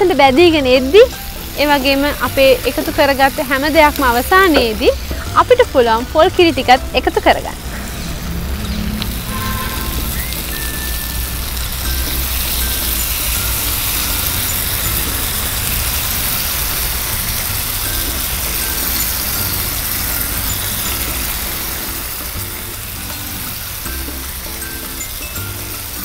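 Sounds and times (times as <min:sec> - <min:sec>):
background music with bass: 0:00.0 - 0:26.0
curry sizzling in a pan: 0:00.0 - 0:26.0.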